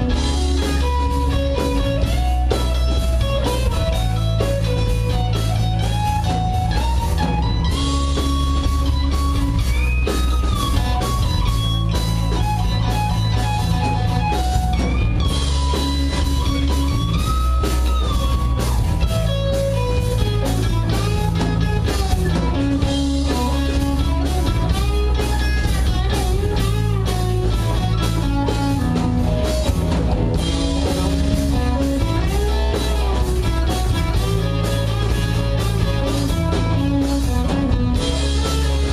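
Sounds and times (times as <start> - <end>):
bass guitar: 0.0 - 38.9
electric guitar lead: 0.0 - 38.9
steady drum beat: 0.0 - 38.9.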